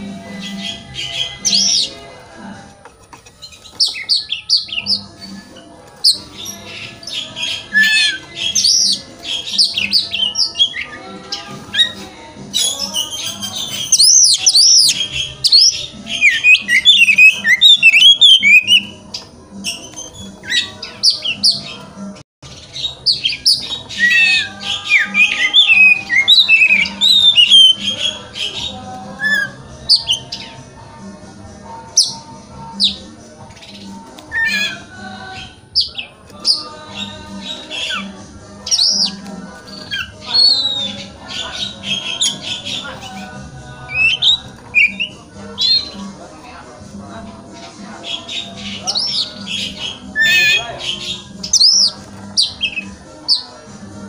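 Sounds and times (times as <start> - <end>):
songbird singing: 0.0 - 30.7, 31.5 - 46.2, 47.4 - 54.0.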